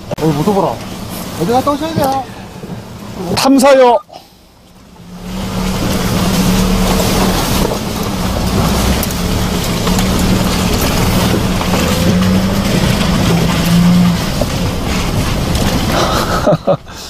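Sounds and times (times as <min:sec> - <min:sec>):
tyres crunching on gravel: 0:00.0 - 0:03.8, 0:04.6 - 0:16.9
diesel engine humming: 0:00.0 - 0:17.0.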